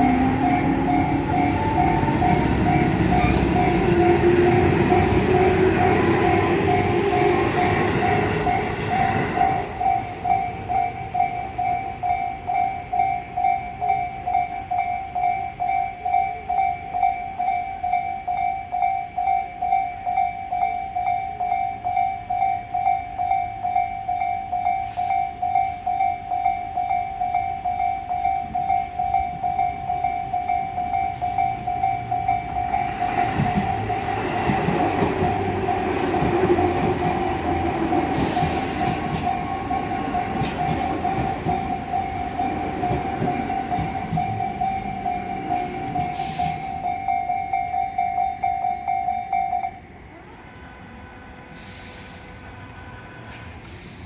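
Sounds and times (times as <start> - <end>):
level crossing warning bell: 0.0 - 51.6
train rumble and wheel clatter: 0.0 - 54.0.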